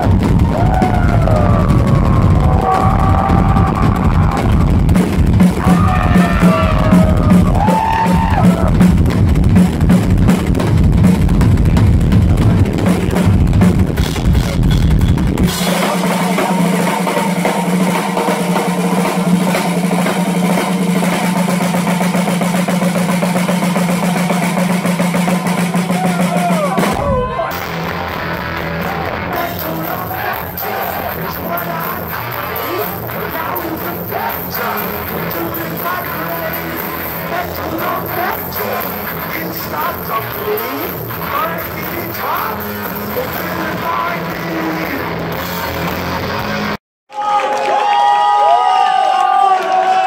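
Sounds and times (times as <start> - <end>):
fast rock drum solo: 0.0 - 45.8
pounding bass drum: 0.0 - 45.8.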